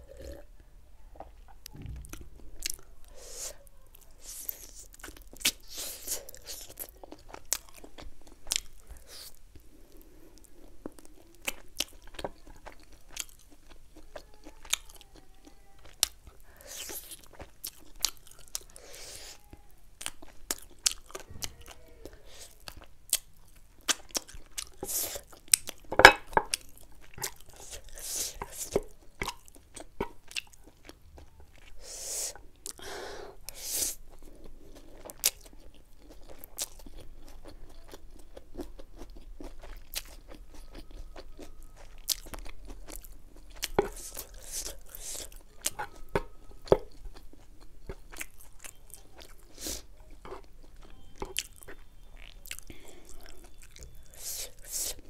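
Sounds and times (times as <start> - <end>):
person chewing with lip smacks: 1.2 - 9.7, 10.4 - 32.8, 33.4 - 55.0.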